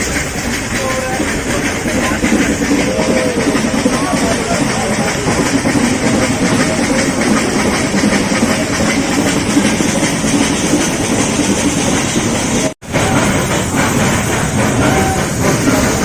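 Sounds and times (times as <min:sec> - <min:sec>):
train carriages rumbling and rattling: 0:00.0 - 0:16.0.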